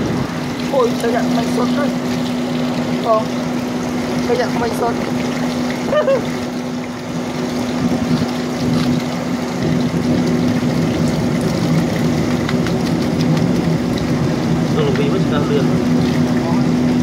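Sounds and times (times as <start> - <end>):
low machine hum: 0.0 - 17.0
water rushing in a channel: 0.0 - 17.0.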